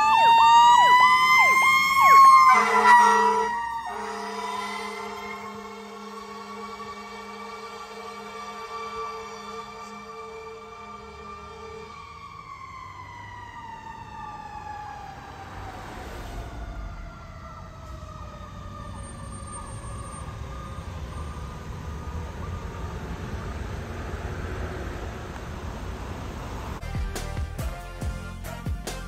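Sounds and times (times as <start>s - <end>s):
mechanical siren winding down: 0.0s - 25.5s
engine and traffic rumble: 0.0s - 29.0s.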